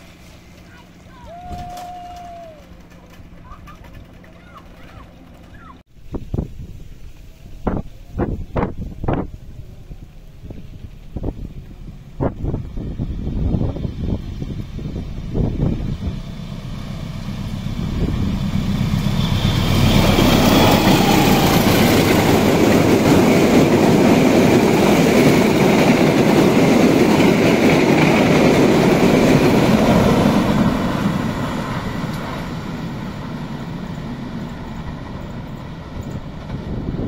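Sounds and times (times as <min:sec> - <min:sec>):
locomotive engine drone: 0:00.0 - 0:37.0
wheel and rail rumble: 0:00.0 - 0:37.0.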